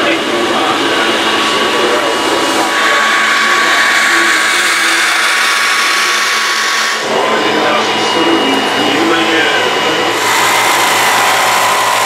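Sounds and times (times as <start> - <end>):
electric cooling fans whirring: 0.0 - 12.0.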